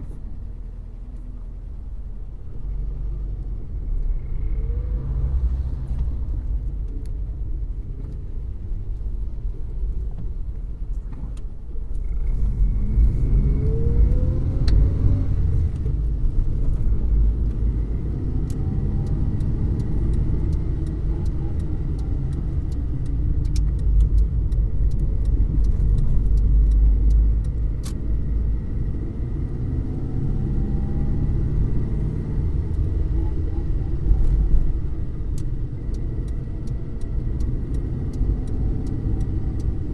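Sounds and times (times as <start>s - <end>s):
car engine: 0.0s - 39.9s
road rumble: 0.0s - 39.9s.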